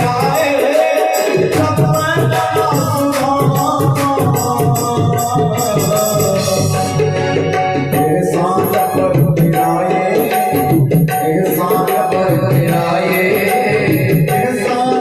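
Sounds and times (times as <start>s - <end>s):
tabla and octapad rhythm: 0.0s - 15.0s.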